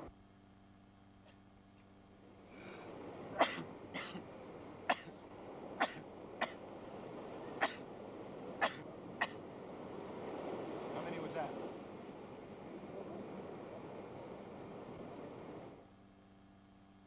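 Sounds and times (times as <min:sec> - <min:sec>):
surf and wind hiss: 0:02.1 - 0:15.9.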